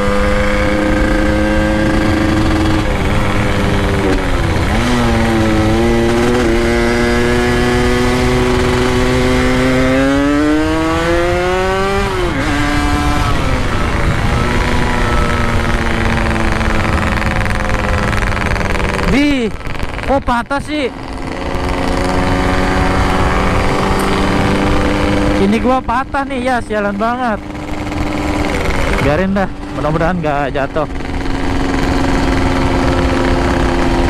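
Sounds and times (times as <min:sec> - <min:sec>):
two-stroke motorcycle engines: 0:00.0 - 0:34.0.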